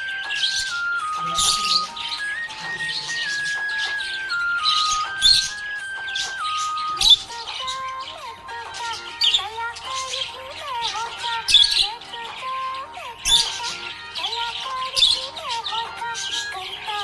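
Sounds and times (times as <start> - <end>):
budgerigar chirps and squawks: 0.0 - 17.0
sing-song rhyme melody: 0.0 - 17.0.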